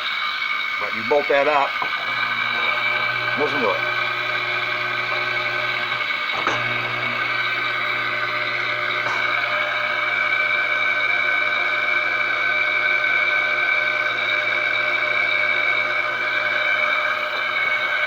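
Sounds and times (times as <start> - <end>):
machine motor whining: 0.6 - 18.0.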